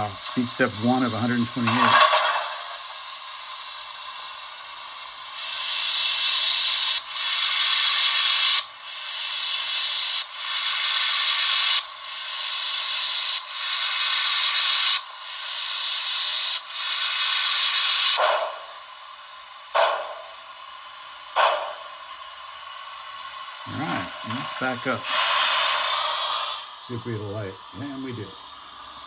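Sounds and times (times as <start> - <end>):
steady hiss: 0.0 - 29.0
steam exhaust chuffs: 0.0 - 29.0.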